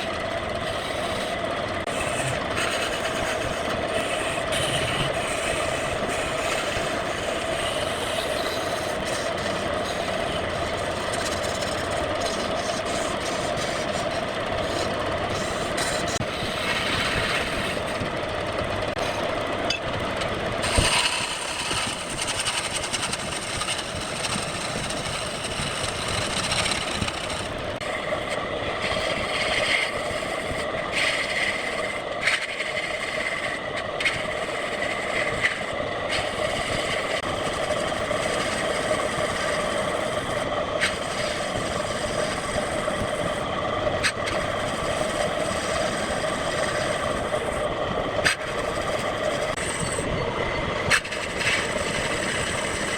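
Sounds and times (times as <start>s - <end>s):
wood lathe cutting wood: 0.0s - 52.9s.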